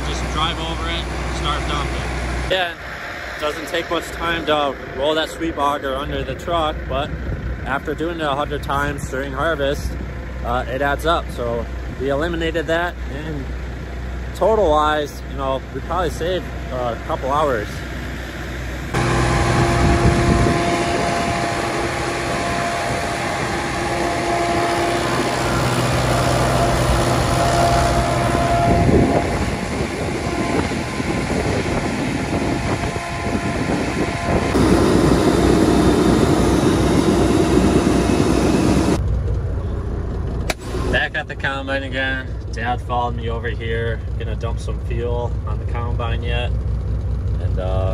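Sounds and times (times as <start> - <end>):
machinery hum: 0.0 - 10.7, 12.9 - 46.7.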